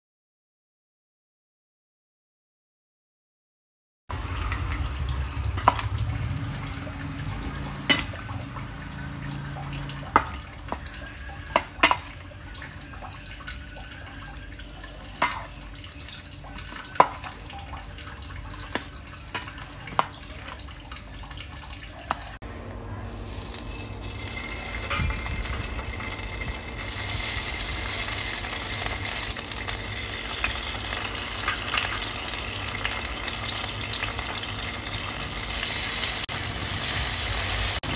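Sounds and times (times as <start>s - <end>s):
hot oil sizzling: 4.1s - 20.4s, 23.0s - 37.9s.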